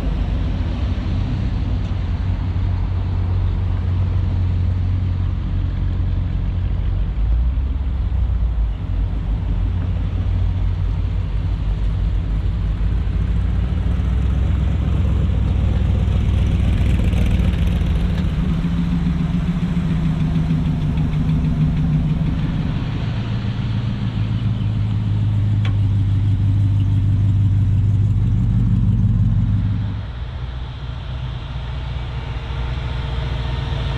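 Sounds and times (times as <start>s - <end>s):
car engines rumbling: 0.0s - 33.9s
higher engine note: 0.0s - 33.9s.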